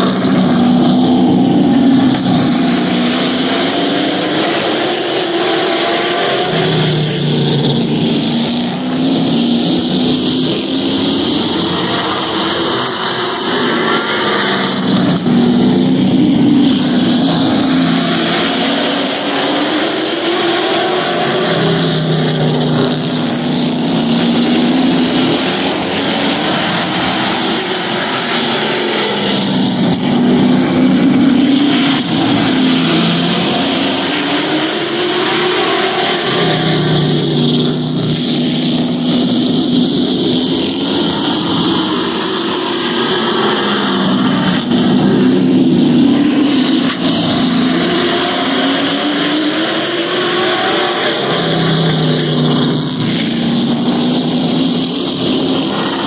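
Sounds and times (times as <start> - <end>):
race truck engines passing: 0.0 - 56.0.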